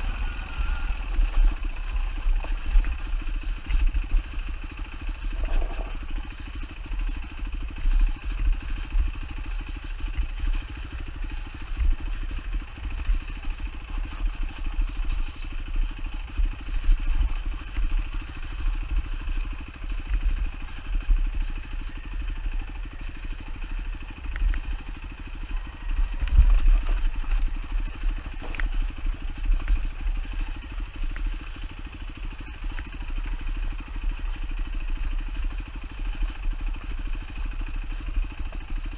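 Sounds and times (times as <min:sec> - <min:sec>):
dirt bike engine at low revs: 0:00.0 - 0:38.9.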